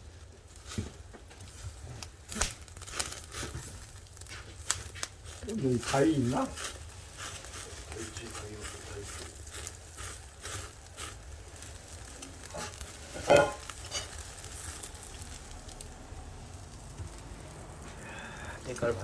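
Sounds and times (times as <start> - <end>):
fat sizzling in wood fire: 0.0 - 19.0
fire crackles and pops: 0.0 - 19.0.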